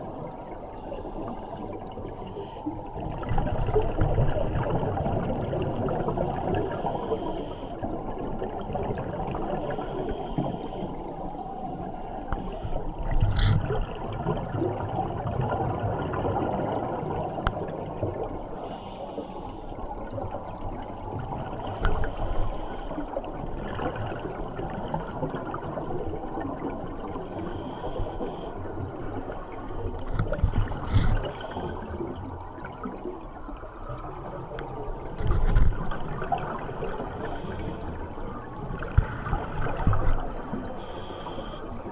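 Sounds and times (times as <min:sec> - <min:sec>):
underwater bubbling water: 0:00.0 - 0:41.9.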